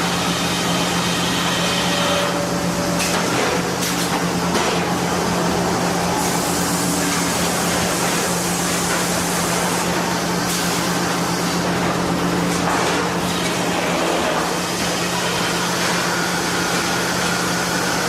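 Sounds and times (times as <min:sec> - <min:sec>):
sawmill machine hum: 0:00.0 - 0:18.0.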